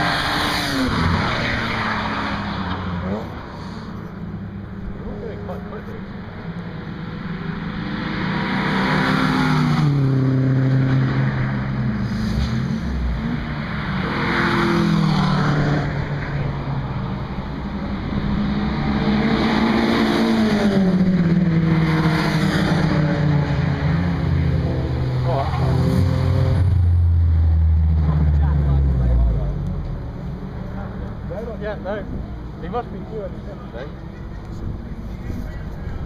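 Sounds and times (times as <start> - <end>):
cars passing with revving engines: 0.0 - 36.0.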